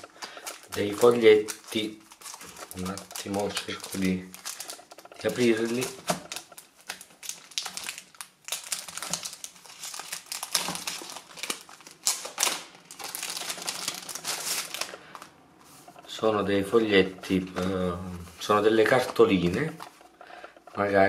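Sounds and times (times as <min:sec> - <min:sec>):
plastic wrapper crinkling: 0:00.0 - 0:15.4, 0:16.8 - 0:20.6.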